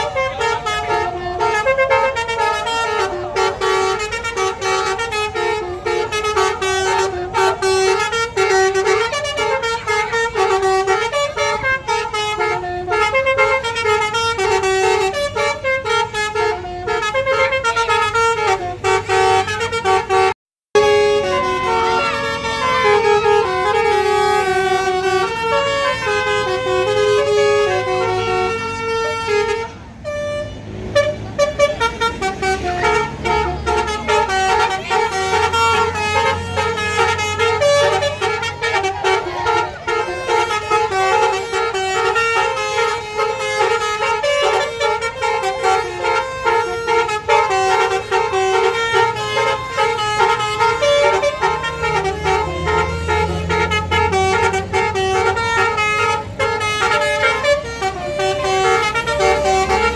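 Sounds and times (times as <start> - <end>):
bus engine rumbling: 0.0 - 59.9
bus horns playing melodies: 0.0 - 59.9.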